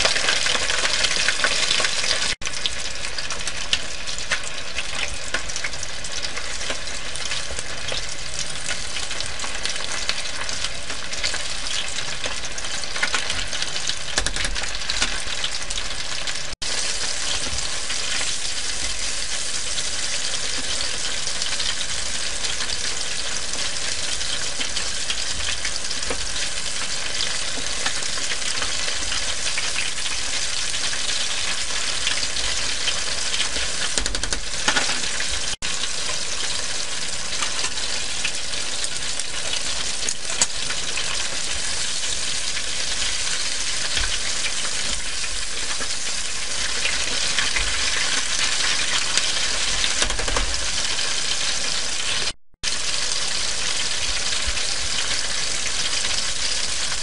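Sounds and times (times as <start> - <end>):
chicken deep-frying in oil: 0.0 - 57.0.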